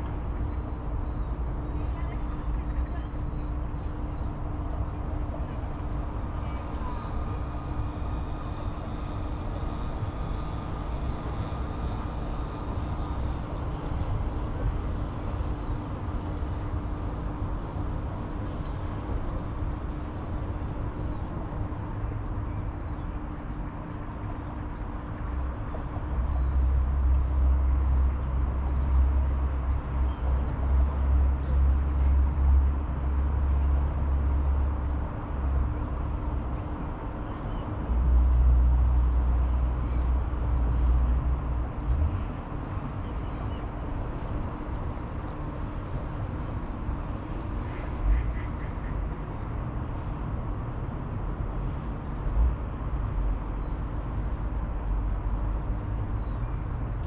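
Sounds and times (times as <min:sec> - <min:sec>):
distant traffic rumble: 0:00.0 - 0:57.0.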